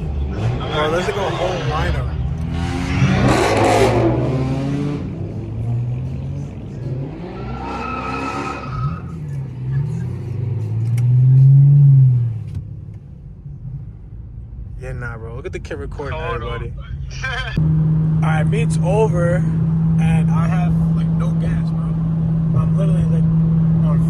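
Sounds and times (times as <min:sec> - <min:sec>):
car engines revving and accelerating: 0:00.0 - 0:24.0.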